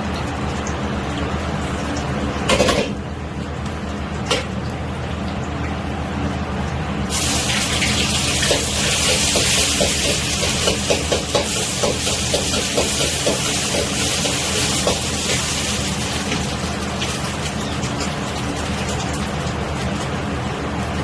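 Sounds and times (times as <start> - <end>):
tap water running: 0.0 - 21.0.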